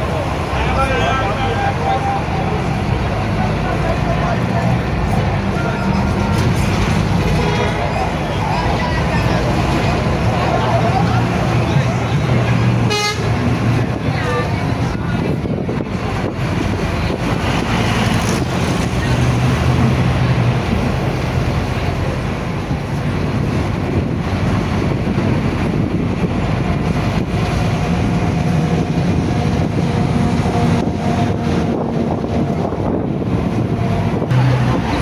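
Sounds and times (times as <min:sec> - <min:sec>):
vehicle engines running: 0:00.0 - 0:35.0
wind rushing over microphone: 0:00.0 - 0:35.0.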